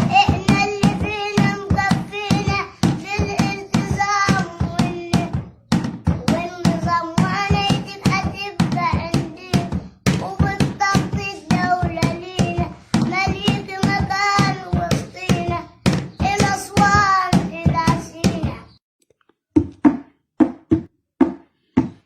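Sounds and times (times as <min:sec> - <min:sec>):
boy singing: 0:00.0 - 0:18.8.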